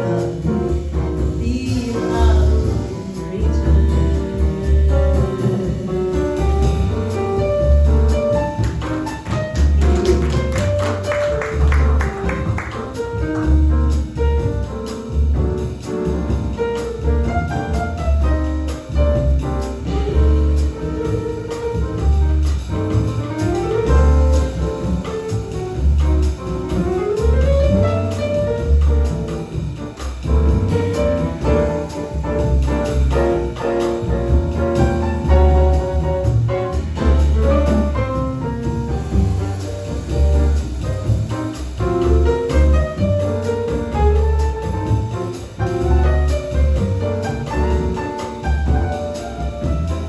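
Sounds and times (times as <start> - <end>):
drums: 0.0 - 50.0
piano chords: 0.0 - 50.0
plucked double bass: 0.0 - 50.0.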